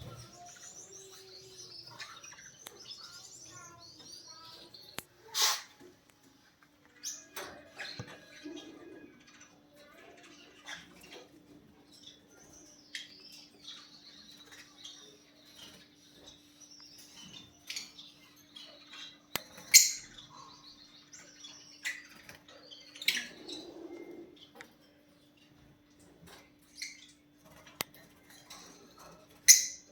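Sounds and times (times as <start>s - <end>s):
lovebirds chirping and calling: 0.0s - 29.9s.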